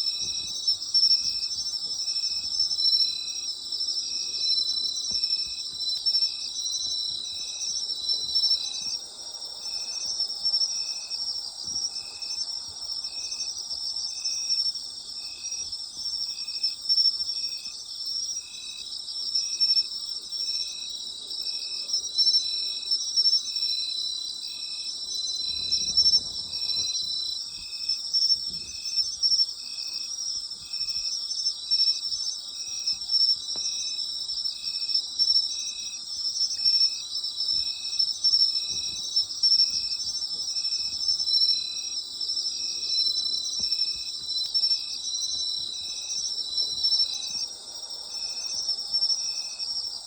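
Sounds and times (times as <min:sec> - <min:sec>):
insect chirping rhythmically: 0:00.0 - 0:50.0
insects trilling: 0:00.0 - 0:50.0.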